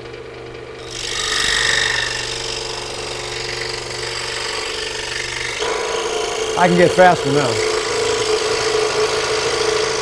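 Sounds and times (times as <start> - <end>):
scroll saw humming: 0.0 - 10.0
saw blade rasping through wood: 0.8 - 10.0.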